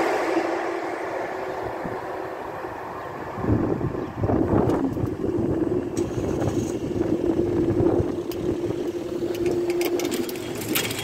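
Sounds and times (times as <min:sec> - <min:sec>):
low rumble: 0:00.0 - 0:09.8
barrier mechanism humming: 0:00.0 - 0:11.0.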